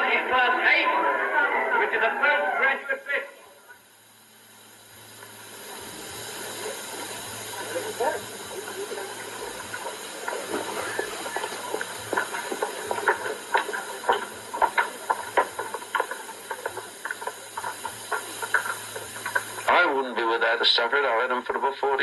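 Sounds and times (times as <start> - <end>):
low hum: 0.0 - 19.8
film soundtrack hiss: 0.0 - 22.0.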